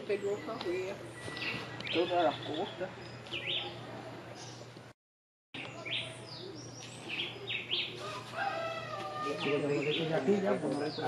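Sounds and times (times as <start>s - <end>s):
birds chirping: 0.0s - 4.8s, 5.6s - 11.0s.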